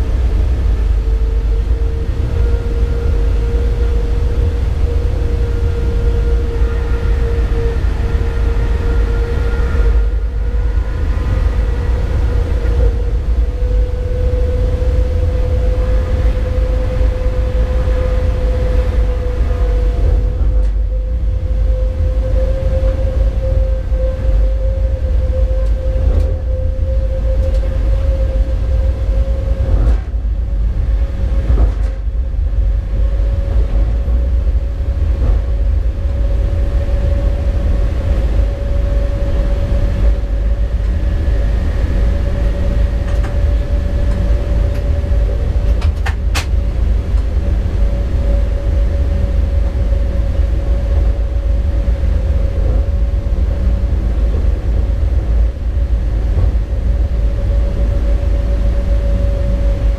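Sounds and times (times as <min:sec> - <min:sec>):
locomotive low rumble: 0:00.0 - 0:59.9
steady whine: 0:00.0 - 0:59.9.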